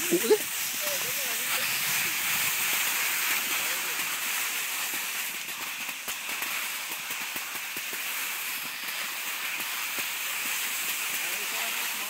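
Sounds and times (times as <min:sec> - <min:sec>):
skis hissing over snow: 0:00.0 - 0:12.0.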